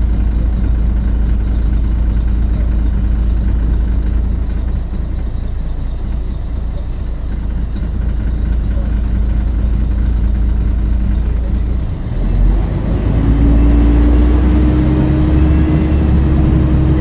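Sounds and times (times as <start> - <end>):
bus diesel engine under load: 0.0 - 17.0
engine whine: 0.0 - 17.0.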